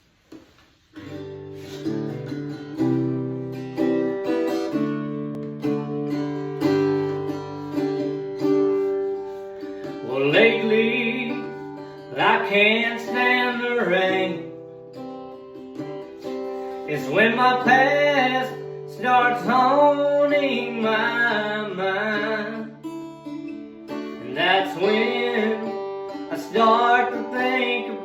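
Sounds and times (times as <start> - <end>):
acoustic guitar strumming chords: 0.3 - 28.0
bending guitar lead melody: 1.0 - 28.0.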